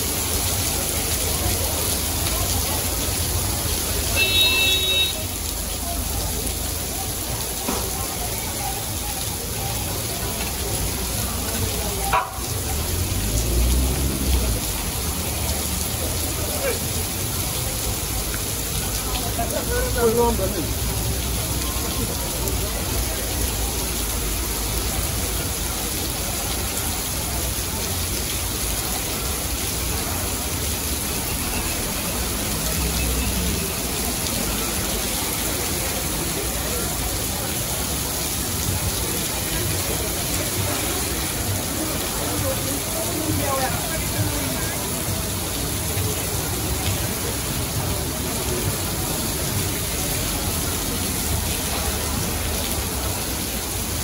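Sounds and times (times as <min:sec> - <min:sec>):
car swishing through wet road: 0:00.0 - 0:54.0
heavy rain pouring: 0:00.0 - 0:54.0.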